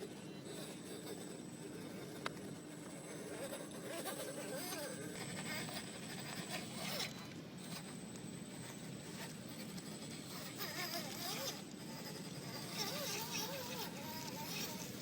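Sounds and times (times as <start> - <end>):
electric motor and gears whining: 0.1 - 15.0.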